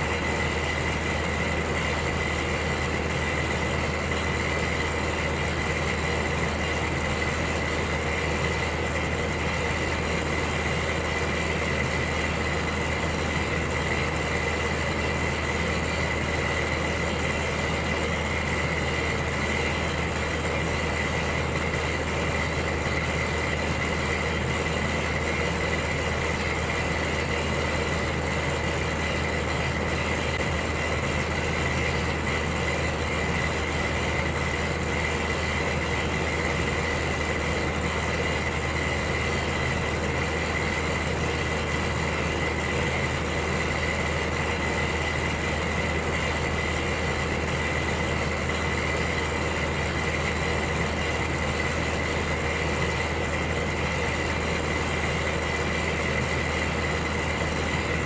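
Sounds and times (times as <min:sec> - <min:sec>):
electric heater fan running: 0:00.0 - 0:58.0.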